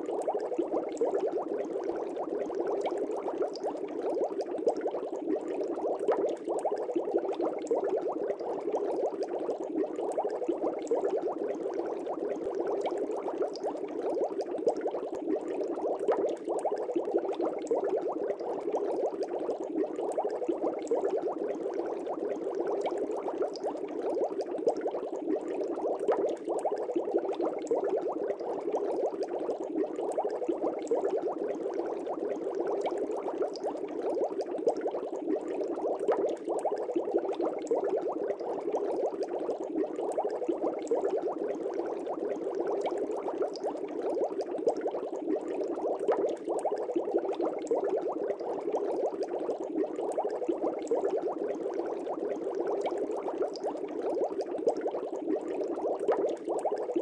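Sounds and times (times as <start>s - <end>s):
aquarium water bubbling: 0.0s - 57.0s.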